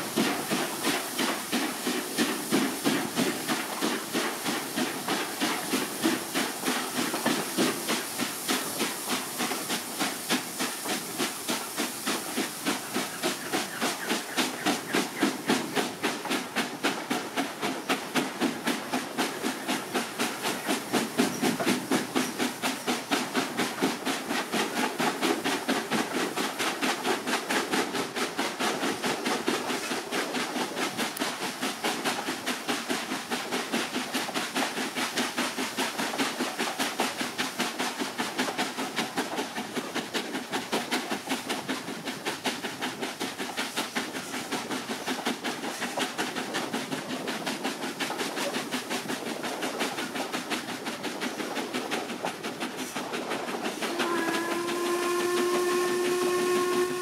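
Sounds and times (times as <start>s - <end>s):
steady steam hiss: 0.0s - 57.0s
steam locomotive exhaust chuffs: 0.0s - 57.0s
train coaches running on rails: 0.0s - 57.0s.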